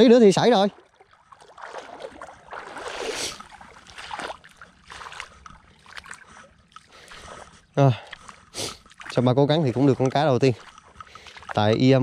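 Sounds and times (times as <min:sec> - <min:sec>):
splashing in shallow water: 0:00.0 - 0:12.0.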